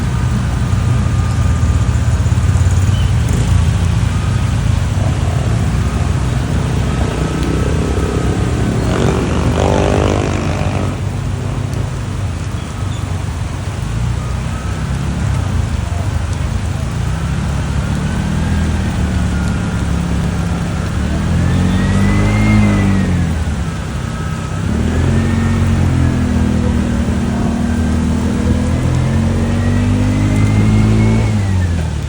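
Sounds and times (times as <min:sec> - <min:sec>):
vehicle engine revving: 0:00.0 - 0:12.8, 0:13.6 - 0:32.0.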